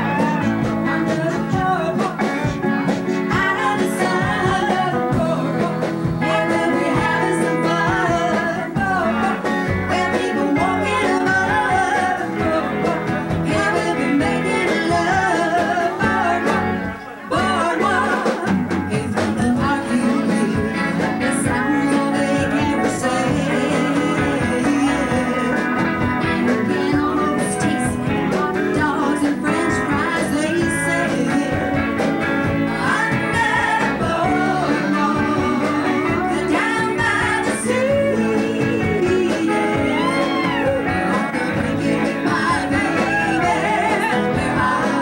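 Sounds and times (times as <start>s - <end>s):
acoustic guitar: 0.0s - 45.0s
electric guitar: 0.0s - 45.0s
woman singing: 0.0s - 45.0s.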